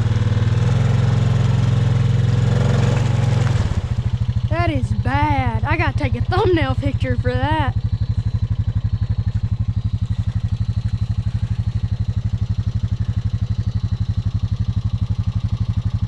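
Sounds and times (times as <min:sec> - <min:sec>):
atv engine idling: 0:00.0 - 0:16.0.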